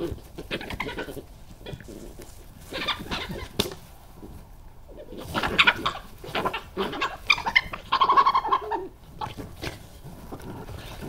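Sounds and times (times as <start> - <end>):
badgers squealing: 0.0 - 3.7, 4.9 - 11.0.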